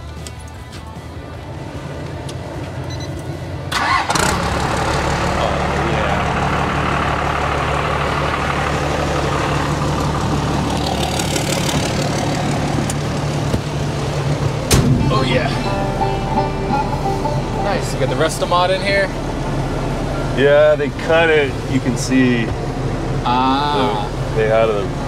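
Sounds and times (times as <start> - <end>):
diesel engine starting and idling: 0.0 - 25.0.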